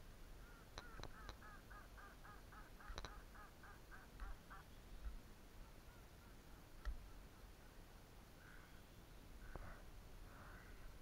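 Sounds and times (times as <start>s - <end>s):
faint duck calls: 0.4s - 4.8s, 5.6s - 11.0s.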